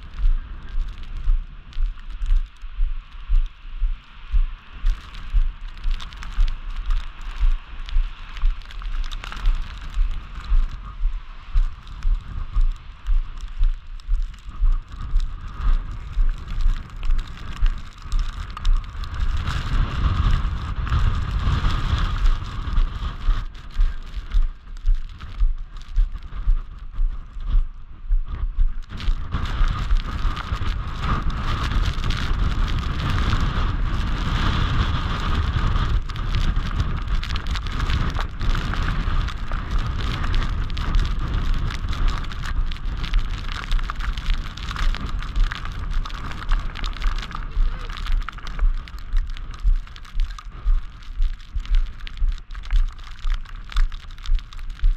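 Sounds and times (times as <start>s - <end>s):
footsteps crunching through snow: 0.0s - 54.9s
wind buffeting microphone: 0.0s - 54.9s.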